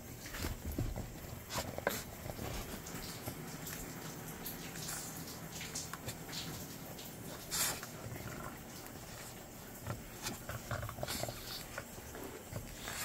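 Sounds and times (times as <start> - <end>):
dogs sniffing: 0.2 - 13.0.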